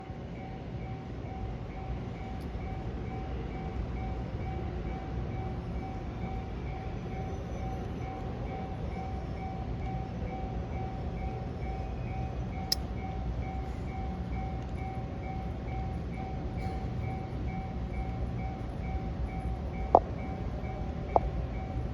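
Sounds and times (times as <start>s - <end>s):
level crossing warning bell: 0.1s - 21.9s.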